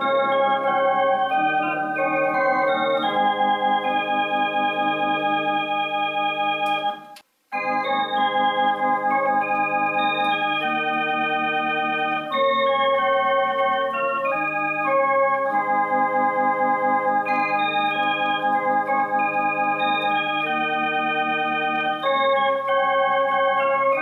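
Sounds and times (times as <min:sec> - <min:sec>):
electronic organ playing held chords: 0:00.0 - 0:24.0.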